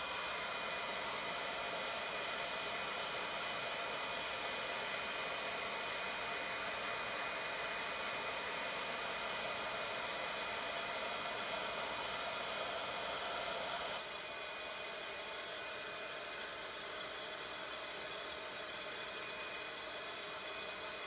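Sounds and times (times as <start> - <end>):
heat tool blowing air: 0.0 - 21.0.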